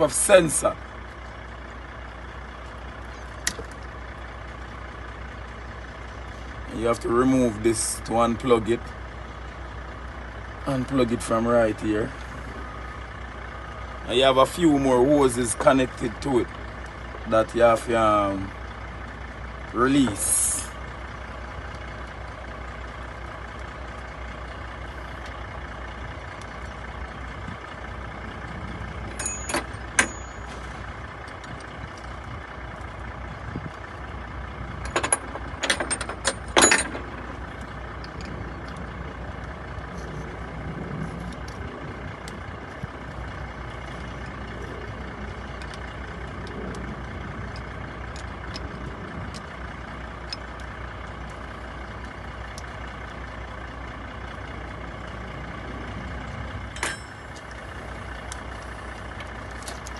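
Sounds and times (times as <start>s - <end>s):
low rumble: 0.7s - 59.9s.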